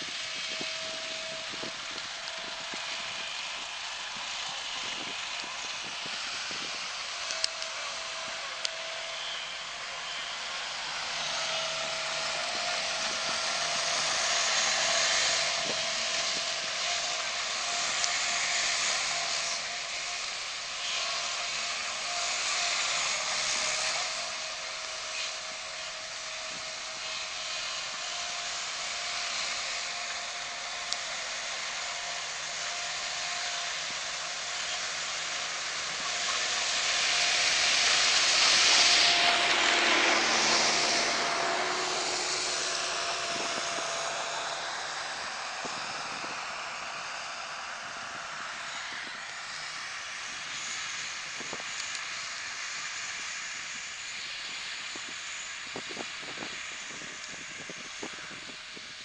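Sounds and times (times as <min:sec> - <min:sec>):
vehicles hissing over snow: 0:00.0 - 0:59.0.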